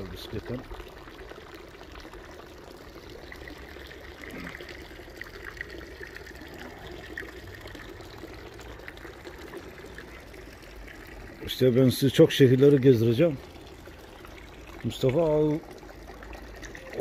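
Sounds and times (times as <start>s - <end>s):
drinking fountain water running: 0.0s - 17.0s.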